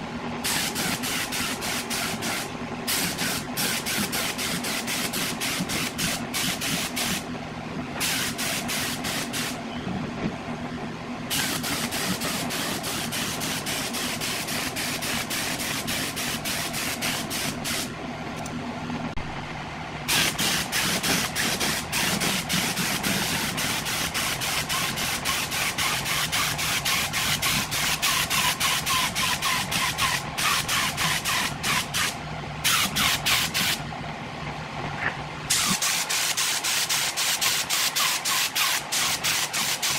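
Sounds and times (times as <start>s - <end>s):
steady mechanical hum: 0.0s - 39.9s
spray paint hiss: 0.4s - 7.2s, 8.0s - 9.6s, 11.3s - 17.9s, 20.1s - 33.8s, 35.5s - 39.9s.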